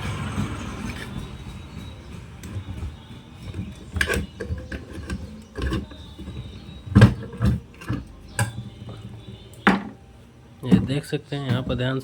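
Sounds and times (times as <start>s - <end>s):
metal fan parts knocking and clinking: 0.0s - 10.0s.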